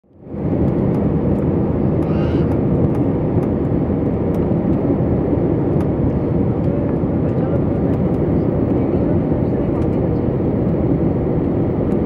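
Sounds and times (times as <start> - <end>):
airliner engines and rushing air: 0.0 - 12.0.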